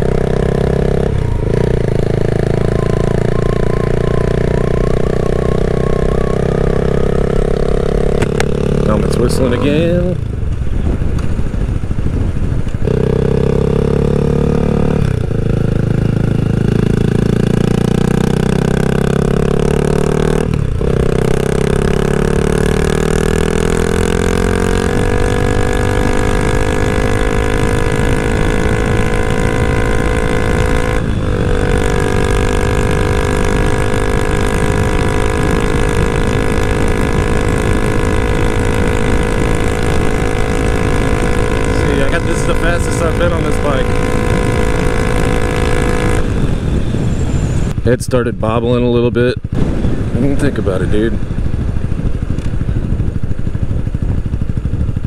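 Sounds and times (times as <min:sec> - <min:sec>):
motorcycle engine accelerating: 0:00.0 - 0:55.0
wind rushing over microphone: 0:00.0 - 0:55.0.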